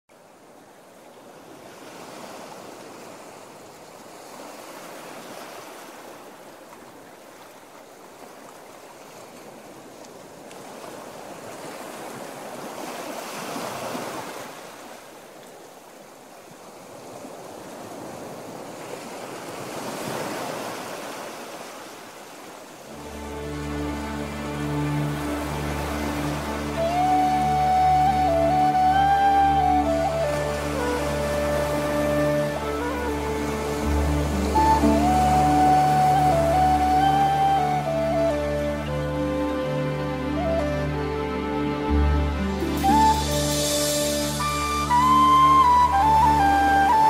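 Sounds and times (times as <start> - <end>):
sea surf washing onto beach: 0.5 - 47.0.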